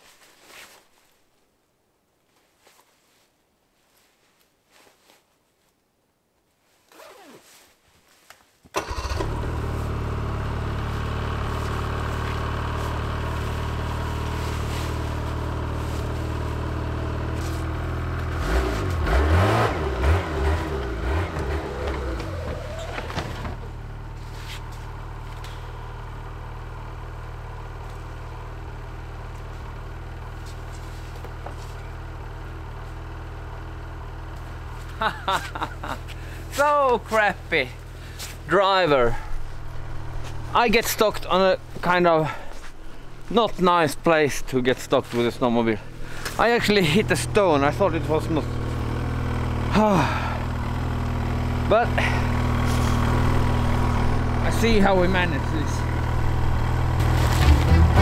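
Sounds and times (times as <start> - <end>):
snowmobile engine idling and revving: 8.8 - 58.0.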